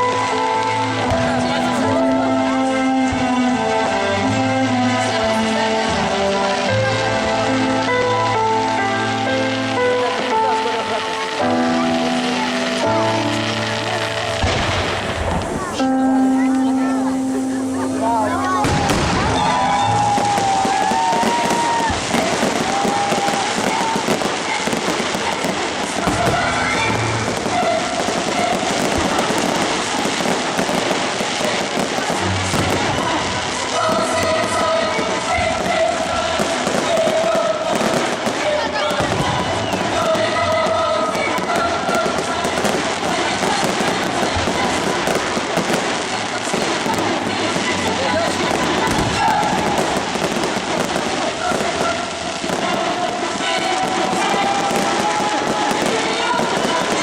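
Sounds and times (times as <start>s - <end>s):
fireworks crackling and popping: 0.0s - 57.0s
fireworks whistling: 0.0s - 57.0s.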